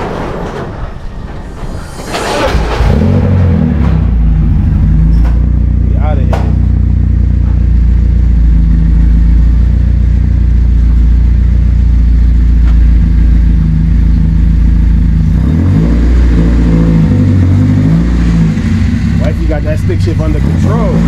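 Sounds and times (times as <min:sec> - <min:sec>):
car engine idling: 0:02.4 - 0:21.0.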